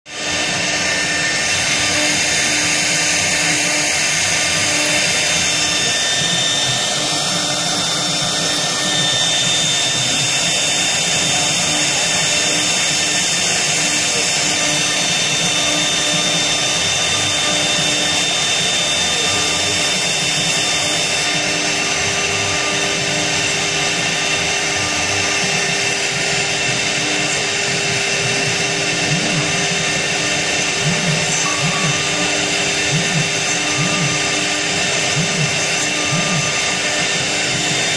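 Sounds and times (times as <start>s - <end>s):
spindle whine: 0.1s - 37.9s.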